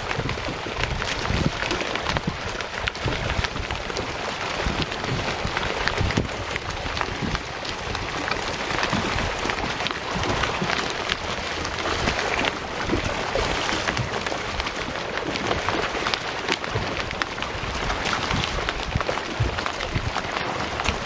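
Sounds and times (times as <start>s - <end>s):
fish splashing at water surface: 0.0s - 21.0s.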